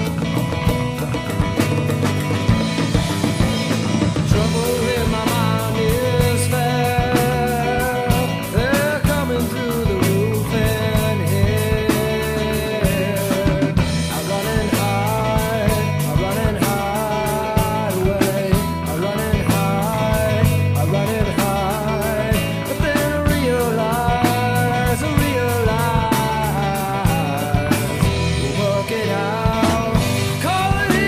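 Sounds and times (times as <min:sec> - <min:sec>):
lead guitar line sliding: 0:00.0 - 0:31.0
rock band playing: 0:00.0 - 0:31.0.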